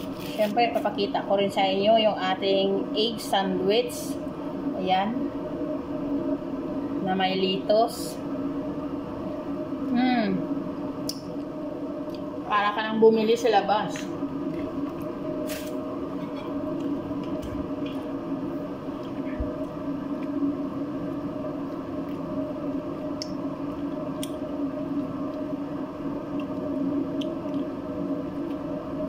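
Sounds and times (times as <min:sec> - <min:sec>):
steady multi-pitch hum: 0:00.0 - 0:29.0.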